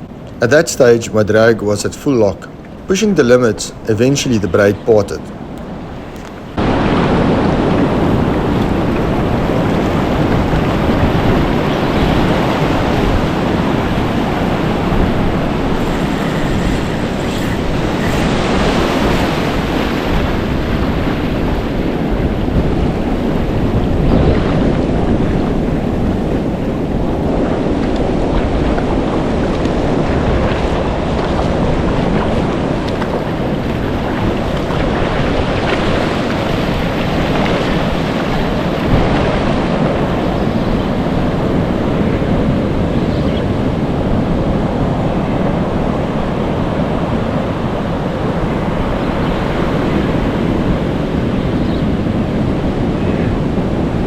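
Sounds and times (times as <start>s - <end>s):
surf breaking on shore: 0.0s - 54.0s
wind buffeting microphone: 0.0s - 54.0s.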